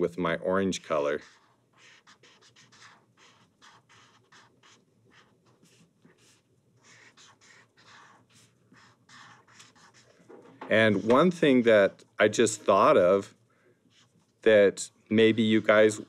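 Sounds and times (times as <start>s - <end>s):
marker scribbling on paper: 0.7s - 13.2s, 15.1s - 16.0s.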